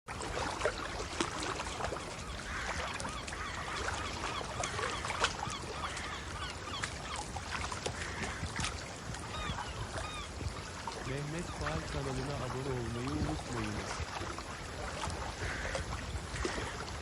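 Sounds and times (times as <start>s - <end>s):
water washing: 0.1s - 17.0s
seagulls calling: 0.4s - 17.0s.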